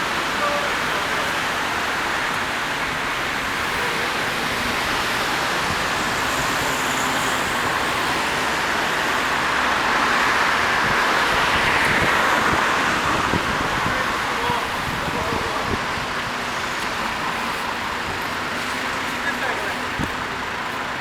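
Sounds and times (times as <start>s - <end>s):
truck engine and tyre noise: 0.0s - 21.0s.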